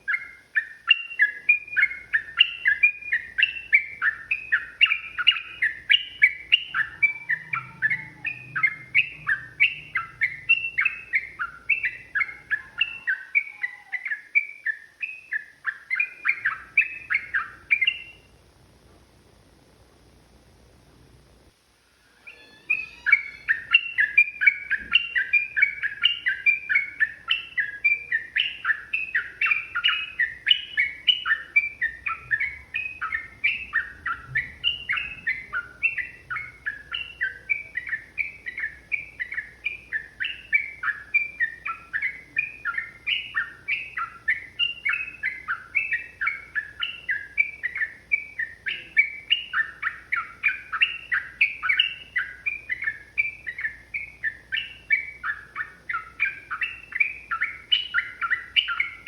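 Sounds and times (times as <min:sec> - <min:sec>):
bird chattering song: 0:00.0 - 0:18.4, 0:22.1 - 0:59.0.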